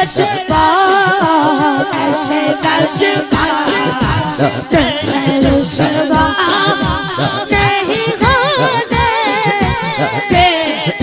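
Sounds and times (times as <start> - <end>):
boy singing into a microphone: 0.0 - 11.0.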